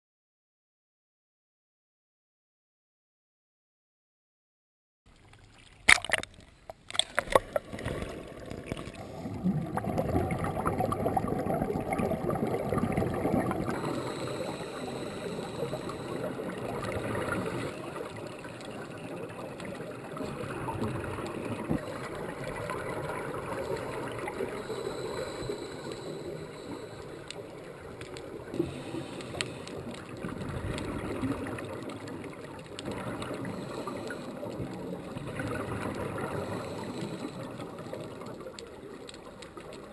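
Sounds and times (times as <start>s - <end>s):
underwater regulator bubbles gurgling: 5.8s - 39.9s.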